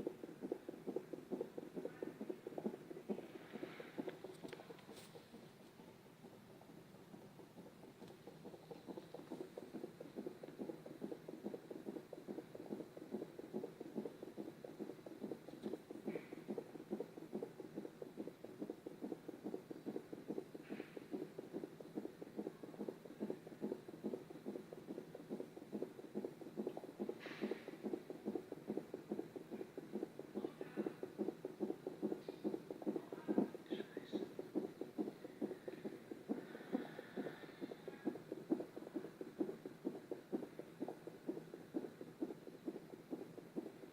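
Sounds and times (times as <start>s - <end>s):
fetal heartbeat through monitor: 0.0s - 43.9s.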